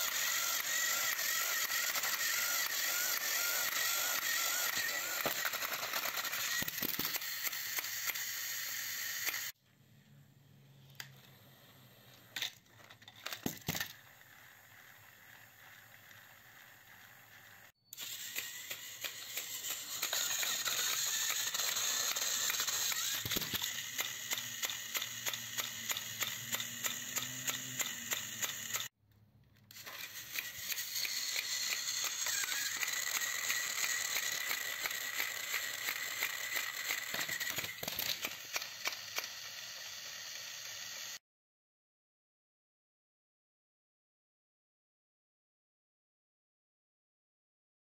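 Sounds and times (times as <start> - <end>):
toy locomotive motor whirring: 0.0 - 9.6, 10.9 - 29.0, 29.7 - 41.2.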